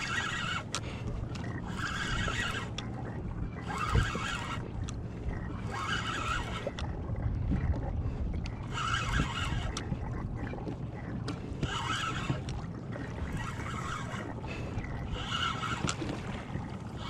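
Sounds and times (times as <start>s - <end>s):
faint ticks: 0.0s - 16.3s
low rumble of wind and sea: 0.0s - 17.0s
water slapping against kayak hull: 0.0s - 17.0s.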